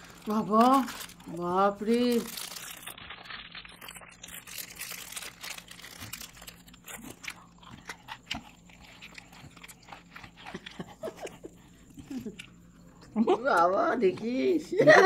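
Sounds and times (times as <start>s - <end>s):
chewing and crunching: 0.0s - 14.7s.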